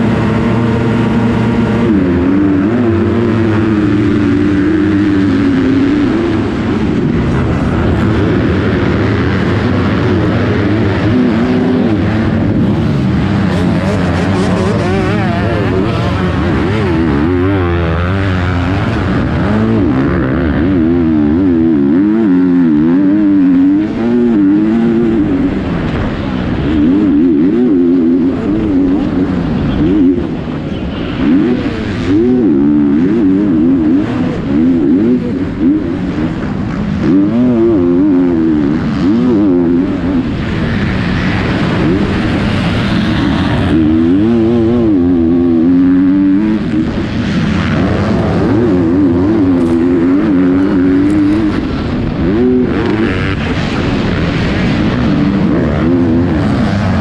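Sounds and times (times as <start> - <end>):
motocross bike engine revving: 0.0 - 57.0
other motorbikes running: 0.0 - 57.0.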